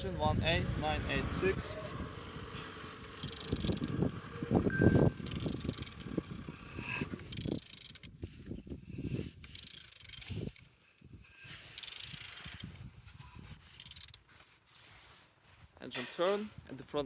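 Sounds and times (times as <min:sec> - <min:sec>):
engine crankshaft clicking and scraping: 0:00.4 - 0:14.5.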